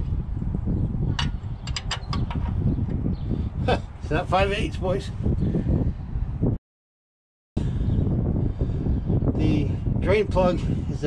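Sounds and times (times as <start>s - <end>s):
wind rumble on microphone: 0.0s - 6.6s, 7.6s - 11.0s.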